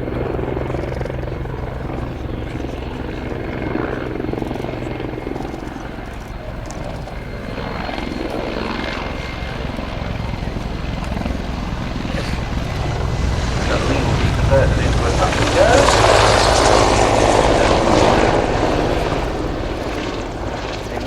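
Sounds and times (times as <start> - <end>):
helicopter rotor beating: 0.0 - 21.0
turbine engine whine: 0.0 - 21.0.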